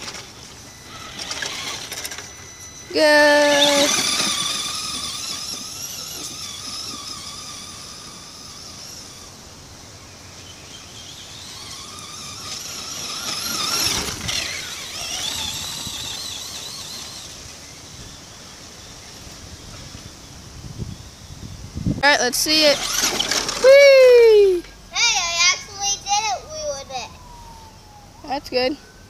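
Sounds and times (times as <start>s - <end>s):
toy truck motor whining: 0.0s - 21.4s, 22.0s - 28.7s.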